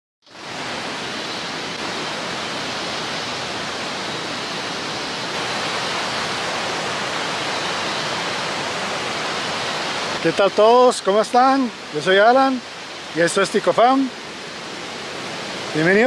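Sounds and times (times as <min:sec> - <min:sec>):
stream water rushing: 0:00.3 - 0:16.0.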